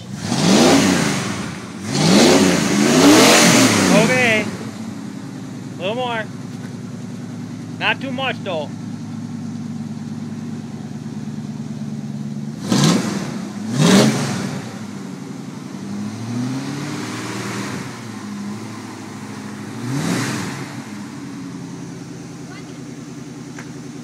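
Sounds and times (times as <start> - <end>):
pickup engine idling and revving: 0.0 - 24.0.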